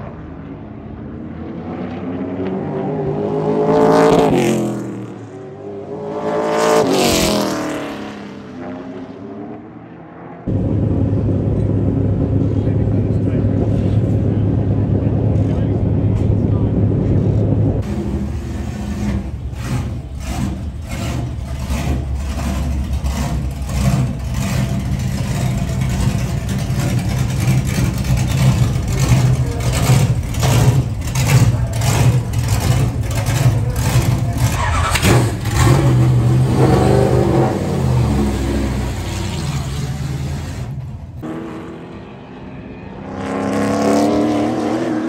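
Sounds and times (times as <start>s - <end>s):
race car engines revving: 0.0s - 45.0s.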